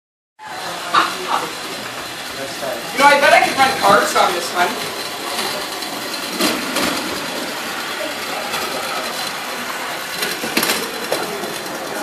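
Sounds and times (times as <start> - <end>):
clockwork gear whir: 1.5 - 12.0.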